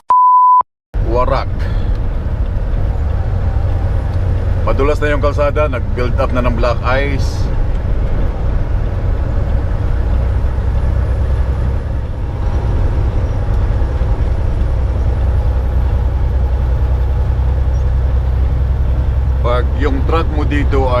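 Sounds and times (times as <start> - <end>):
road noise: 1.0 - 21.0
truck engine drone: 1.0 - 21.0.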